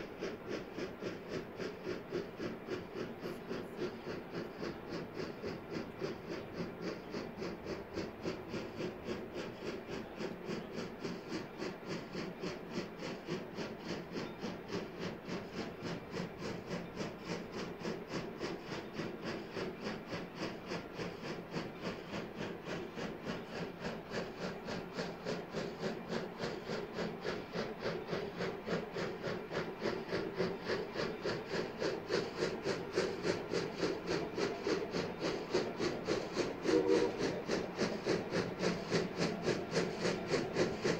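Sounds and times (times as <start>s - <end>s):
steam locomotive chuffing: 0.0s - 40.9s.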